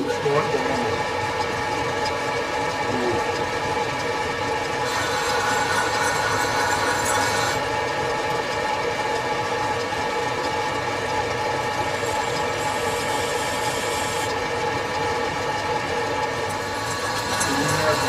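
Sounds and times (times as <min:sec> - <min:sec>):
lathe machine whine: 0:00.0 - 0:18.0.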